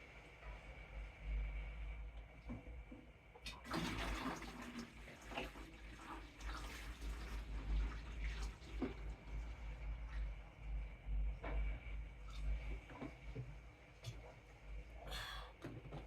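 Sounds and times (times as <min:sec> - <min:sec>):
steady low hum: 0:00.0 - 0:03.6, 0:06.4 - 0:16.0.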